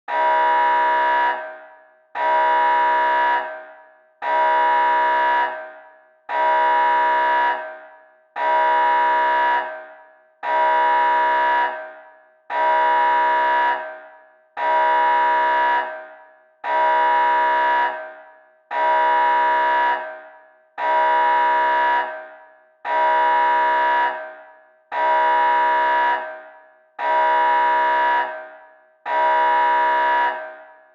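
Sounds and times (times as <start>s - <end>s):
alarm horn blasts: 0.1s - 30.7s.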